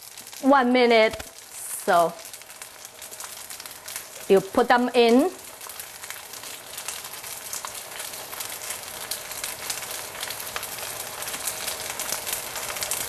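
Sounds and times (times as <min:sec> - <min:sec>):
dumplings sizzling and crackling in oil: 0:00.0 - 0:13.0.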